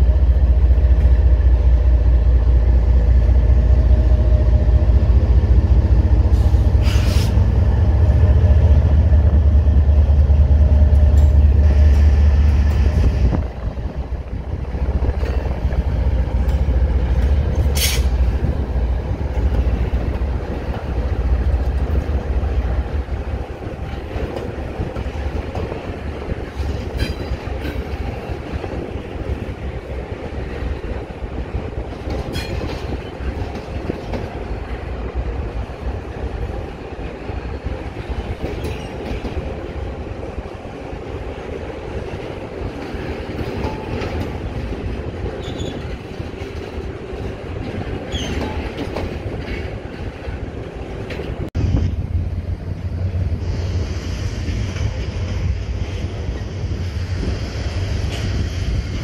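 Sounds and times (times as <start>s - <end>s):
locomotive low rumble: 0.0s - 59.0s
train wheels on rails: 0.0s - 59.0s.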